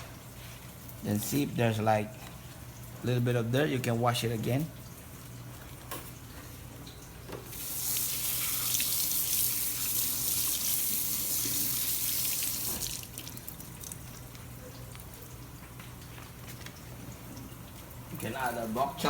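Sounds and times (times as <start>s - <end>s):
kitchen tap running: 0.9s - 19.0s.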